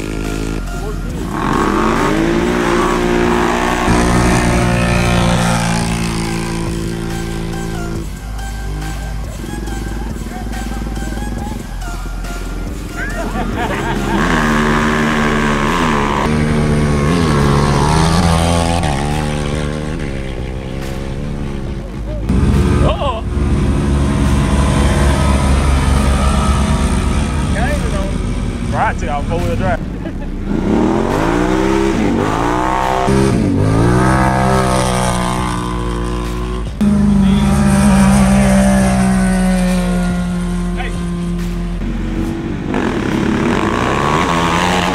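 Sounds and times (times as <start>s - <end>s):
atv engines revving: 0.0s - 44.9s.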